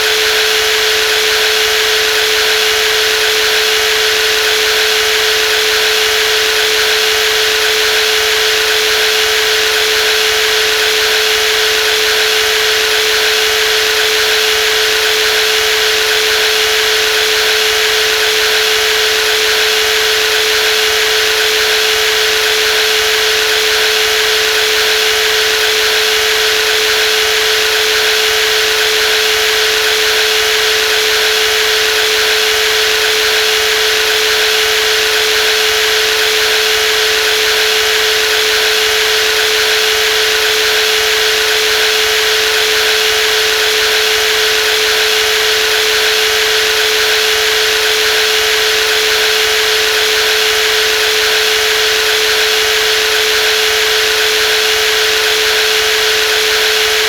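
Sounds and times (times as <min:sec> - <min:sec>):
jigsaw running: 0:00.1 - 0:57.0.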